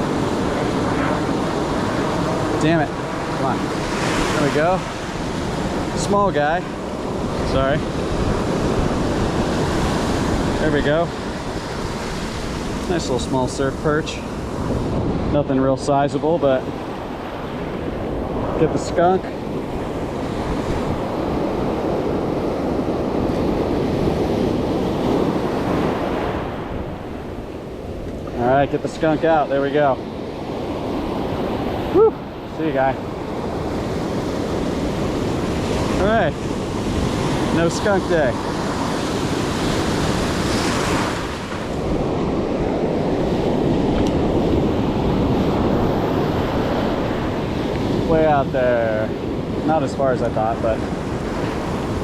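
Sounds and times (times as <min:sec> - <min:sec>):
surf washing on beach: 0:00.0 - 0:52.0
wind rumbling on microphone: 0:00.0 - 0:52.0.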